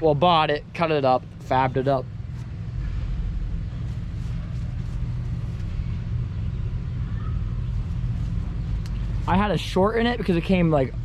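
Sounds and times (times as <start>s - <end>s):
engine idling low rumble: 0.0s - 11.0s.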